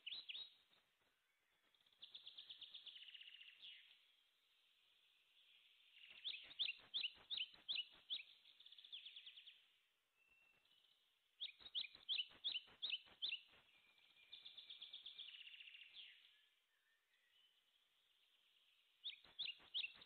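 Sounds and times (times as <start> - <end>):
songbird chirping and trilling: 0.0 - 20.0.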